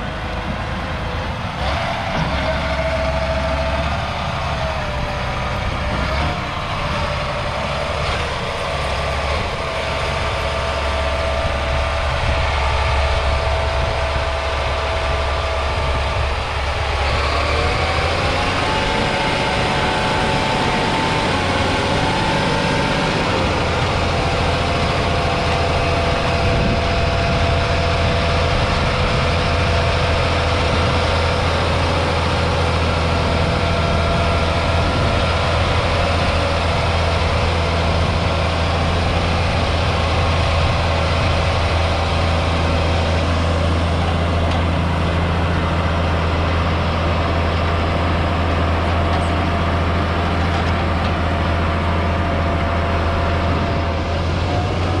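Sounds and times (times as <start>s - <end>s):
diesel tractor engine working: 0.0s - 55.0s
engine whine: 0.0s - 55.0s.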